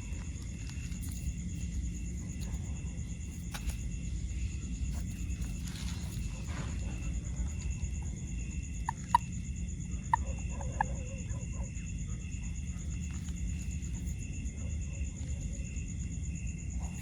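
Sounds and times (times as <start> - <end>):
high insect trilling: 0.0 - 14.4.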